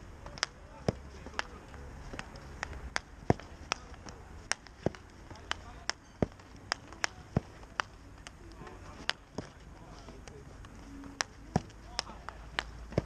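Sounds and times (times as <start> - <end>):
hockey balls struck with sticks: 0.0 - 13.0.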